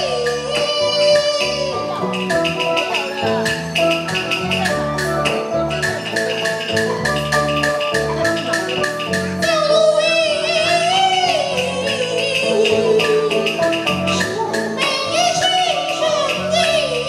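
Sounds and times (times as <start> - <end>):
opera accompaniment ensemble: 0.0 - 17.0.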